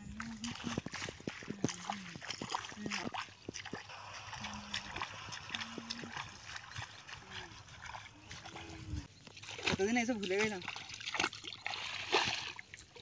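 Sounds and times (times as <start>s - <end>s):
bare feet splashing through mud: 0.0s - 13.0s.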